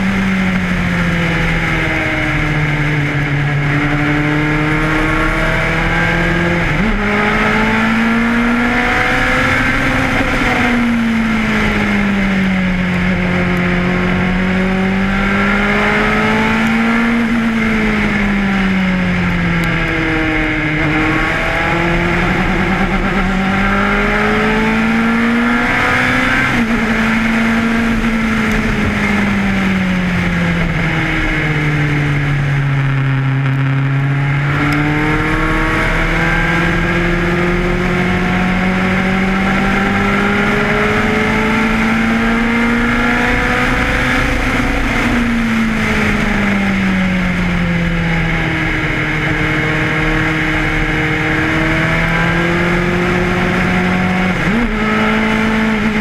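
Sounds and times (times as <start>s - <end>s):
racing car engine at speed: 0.0s - 56.0s.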